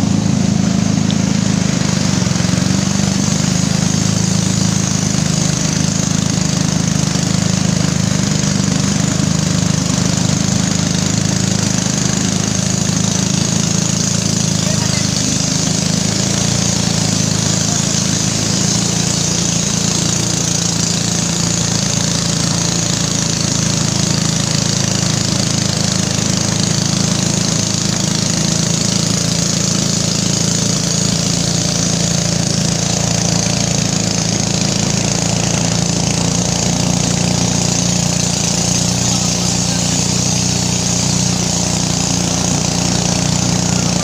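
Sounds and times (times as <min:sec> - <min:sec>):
boat engine droning: 0:00.0 - 0:44.0
water rushing past boat: 0:00.0 - 0:44.0
wind: 0:00.0 - 0:44.0.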